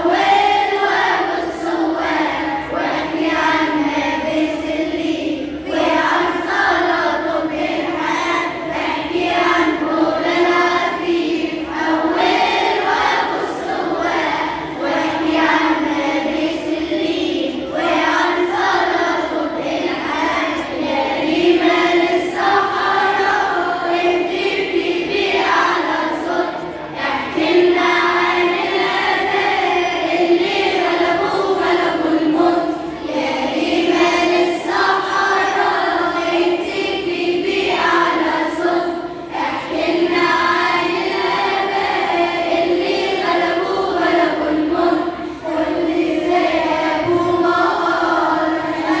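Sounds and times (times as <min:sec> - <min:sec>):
children's choir singing a hymn: 0:00.0 - 0:49.0.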